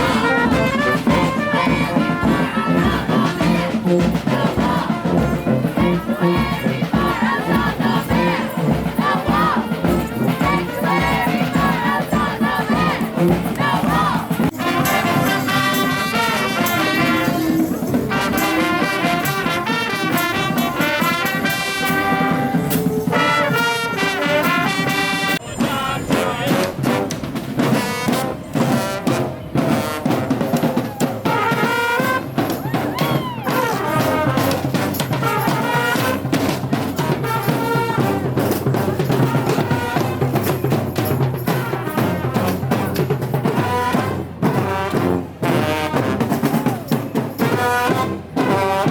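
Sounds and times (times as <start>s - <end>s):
brass band playing: 0.0s - 48.9s
drums keeping a beat: 0.0s - 48.9s.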